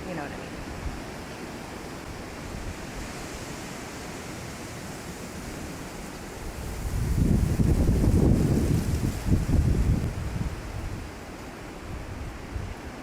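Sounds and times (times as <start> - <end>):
leaves hissing: 0.0 - 12.8
wind rushing through trees: 0.0 - 13.0
wind buffeting microphone: 1.8 - 13.0.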